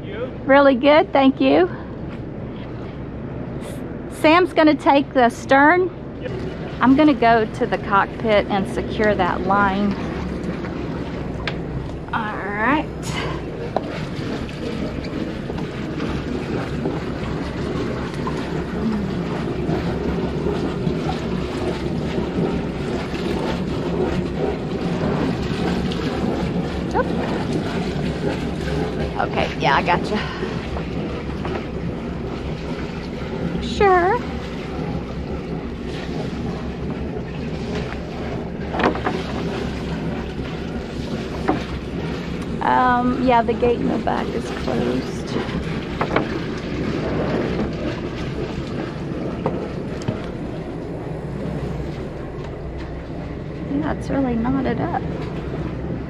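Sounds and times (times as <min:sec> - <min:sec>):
boat engines idling: 0:00.0 - 0:56.0.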